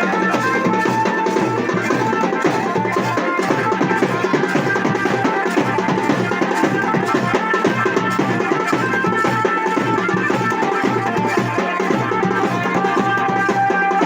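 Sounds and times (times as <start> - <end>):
held melody line: 0.0 - 14.0
rapid dense drumming: 0.0 - 14.0.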